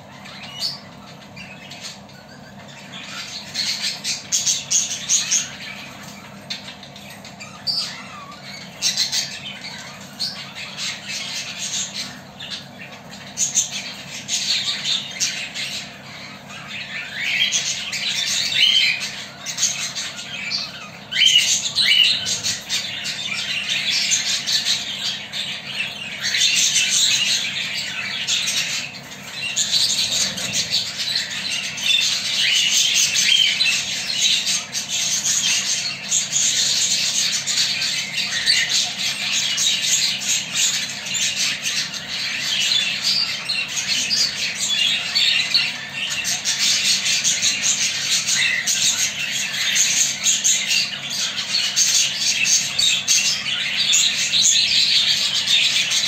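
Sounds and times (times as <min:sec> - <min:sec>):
budgerigar chattering: 0:00.0 - 0:56.0.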